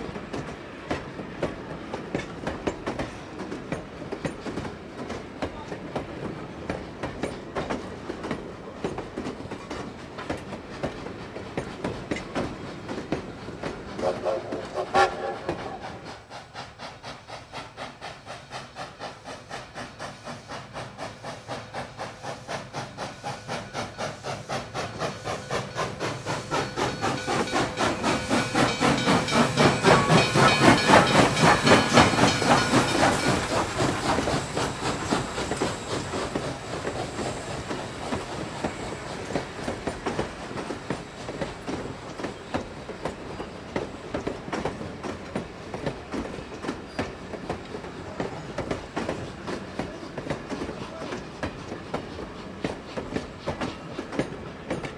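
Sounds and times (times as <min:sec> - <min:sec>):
train wheels clickety-clack: 0:00.0 - 0:54.9.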